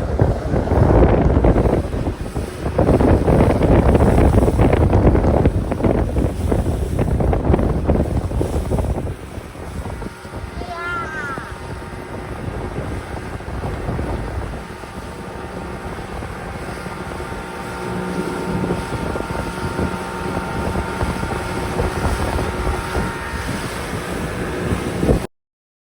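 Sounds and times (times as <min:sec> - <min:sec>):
boat motor running: 0:00.0 - 0:25.3
wind on microphone: 0:00.0 - 0:25.3.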